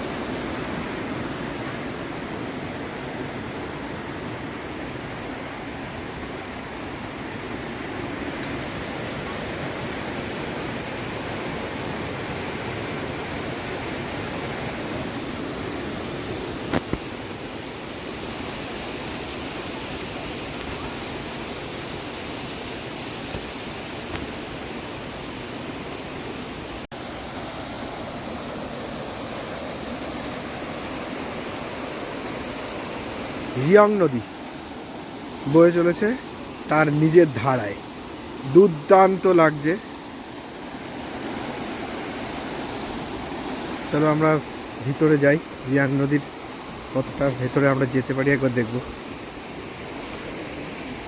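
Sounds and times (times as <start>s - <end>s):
river rushing over rocks: 0.0s - 51.0s.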